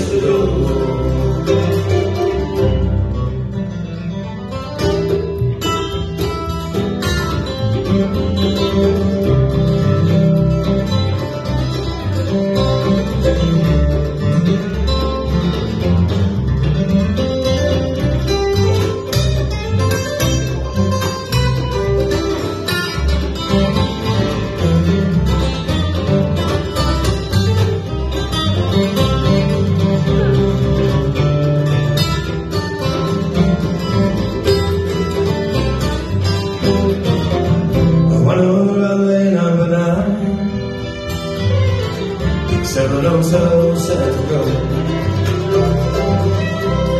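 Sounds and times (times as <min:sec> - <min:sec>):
acoustic guitar: 0:00.0 - 0:46.9
bluegrass band playing: 0:00.0 - 0:46.9
fiddle: 0:00.0 - 0:46.9
mandolin: 0:00.0 - 0:46.9
upright double bass: 0:00.0 - 0:46.9.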